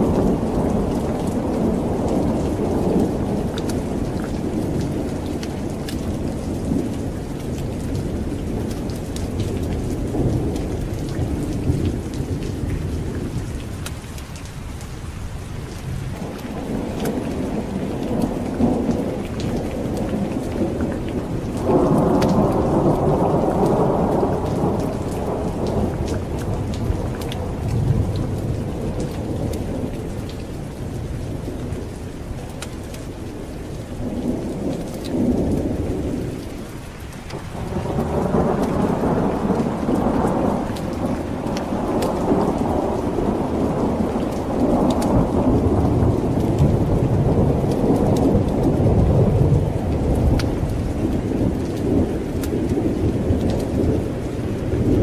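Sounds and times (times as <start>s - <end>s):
rolling thunder: 0.0s - 13.9s, 15.8s - 36.5s, 37.3s - 55.0s
steady rain: 0.0s - 55.0s.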